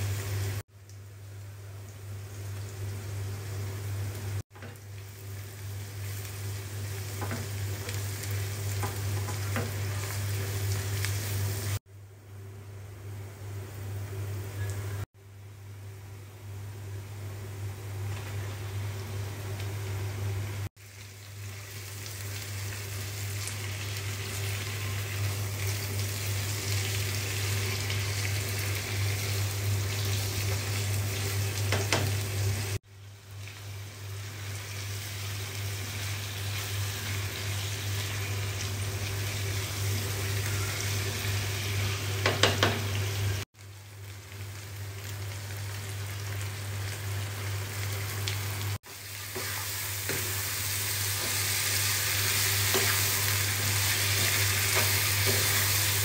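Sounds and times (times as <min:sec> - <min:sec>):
food sizzling in hot oil: 0:00.0 - 0:11.8, 0:18.0 - 0:56.0.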